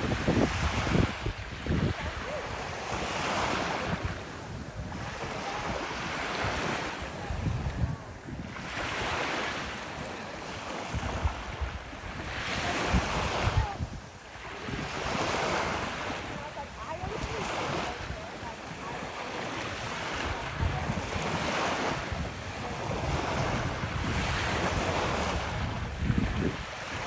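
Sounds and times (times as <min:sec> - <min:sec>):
ocean waves breaking: 0:00.0 - 0:27.0
wind buffeting microphone: 0:00.0 - 0:27.0.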